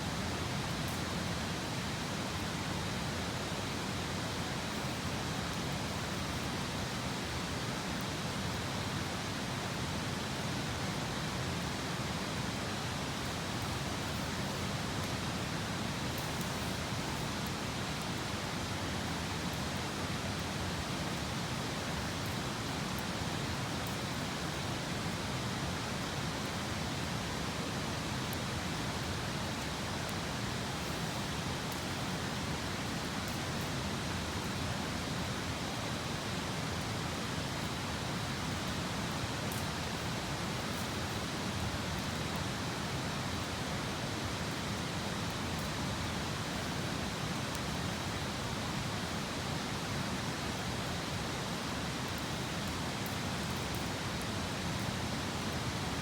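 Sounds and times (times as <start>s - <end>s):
campfire crackles: 0.1s - 56.0s.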